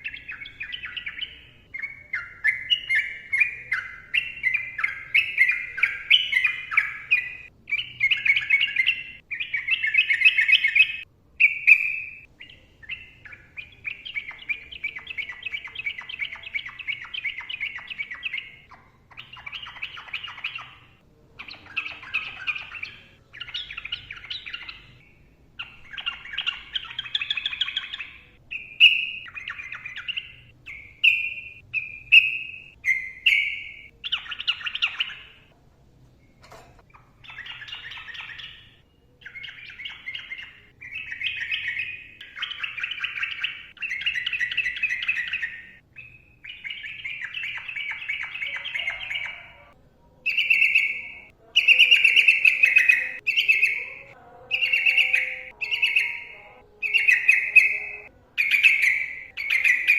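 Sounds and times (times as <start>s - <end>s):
bulbul singing: 0.0s - 35.6s, 36.2s - 59.9s.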